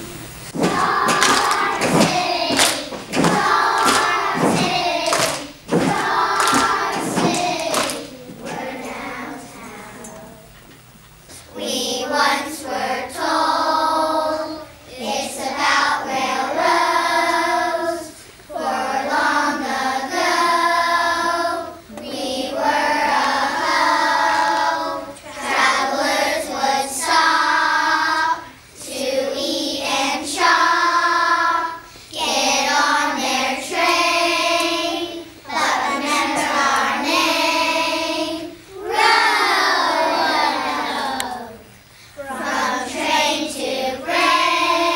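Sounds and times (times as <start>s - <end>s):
children singing together: 0.0s - 10.6s, 11.3s - 44.9s.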